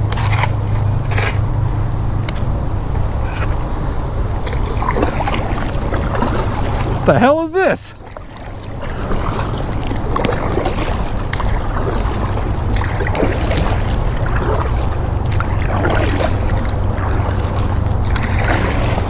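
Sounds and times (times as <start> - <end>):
paddle strokes splashing: 0.0 - 19.0.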